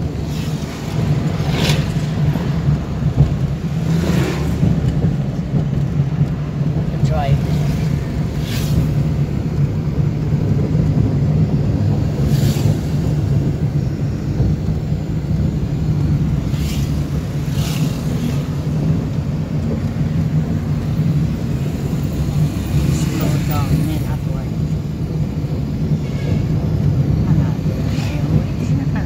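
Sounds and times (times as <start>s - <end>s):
car cabin road noise: 0.0s - 29.0s
vehicles passing close by: 0.0s - 29.0s.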